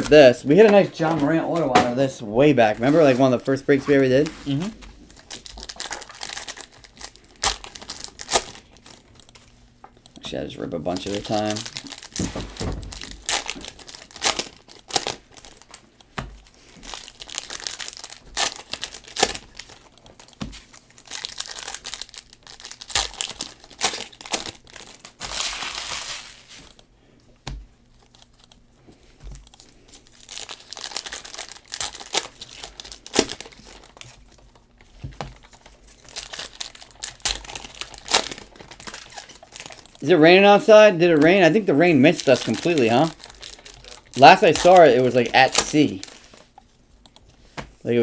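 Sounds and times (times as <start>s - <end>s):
plastic wrappers crinkling and tearing: 3.8s - 9.5s, 10.8s - 26.7s, 29.4s - 46.6s.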